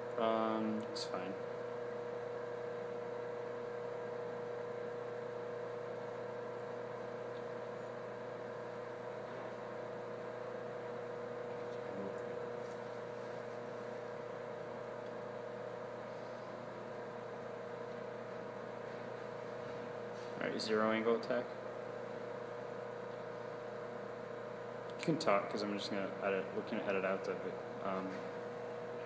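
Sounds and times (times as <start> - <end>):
electric hum and whir: 0.0 - 29.0.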